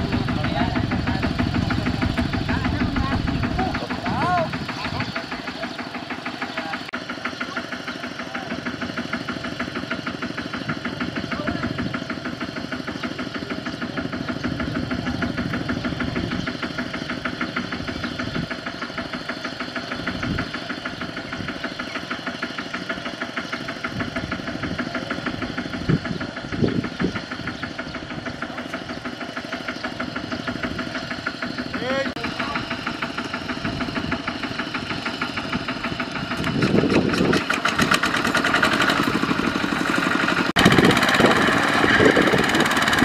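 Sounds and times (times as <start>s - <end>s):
diesel tractor engine idling: 0.0s - 43.0s.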